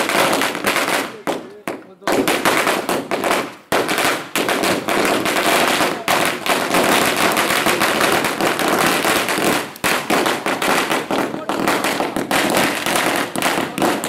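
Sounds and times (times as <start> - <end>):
firecrackers bursting: 0.0 - 14.0.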